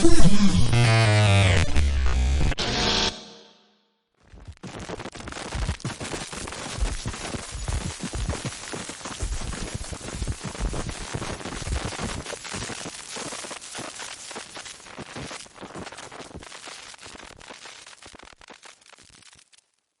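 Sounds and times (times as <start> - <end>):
digital glitch crackling clicks: 0.0 - 3.2, 4.3 - 19.7.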